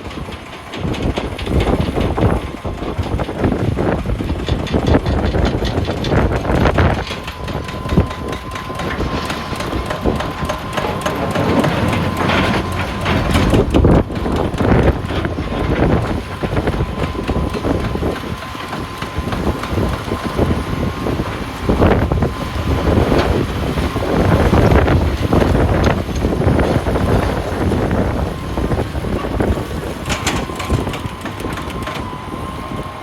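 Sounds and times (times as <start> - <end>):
diesel engine running hard: 0.0 - 33.0
steady high whine: 0.0 - 33.0.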